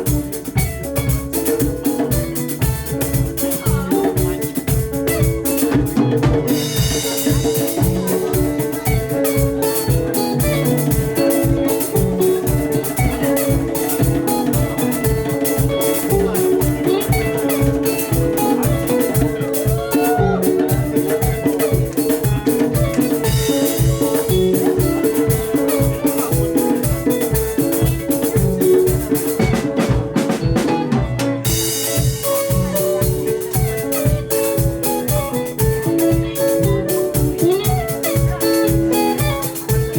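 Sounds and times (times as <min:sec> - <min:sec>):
drum kit fast beat: 0:00.0 - 0:39.9
live band playing rumba: 0:00.0 - 0:39.9
repeating guitar lines: 0:00.0 - 0:39.9.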